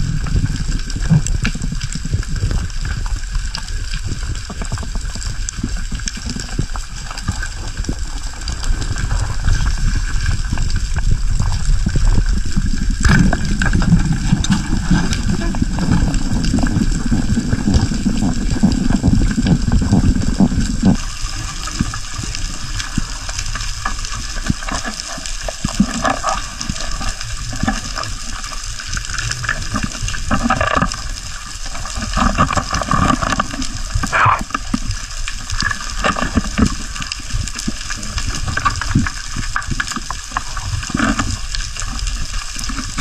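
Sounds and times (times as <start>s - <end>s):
sea water rushing and splashing: 0.0s - 43.0s
strong low rumble: 0.0s - 43.0s.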